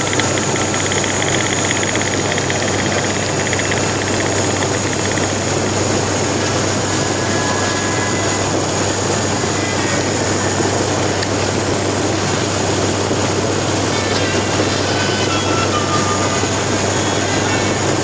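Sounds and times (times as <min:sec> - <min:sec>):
high engine whine: 0:00.0 - 0:18.0
turboprop cabin roar: 0:00.0 - 0:18.0.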